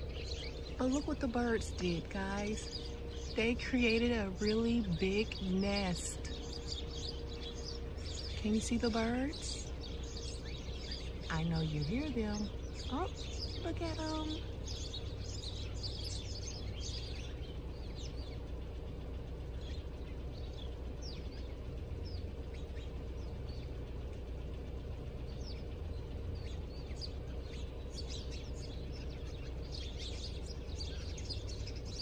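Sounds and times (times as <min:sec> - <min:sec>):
small birds chirping: 0:00.0 - 0:32.0
steady low rumble: 0:00.0 - 0:32.0.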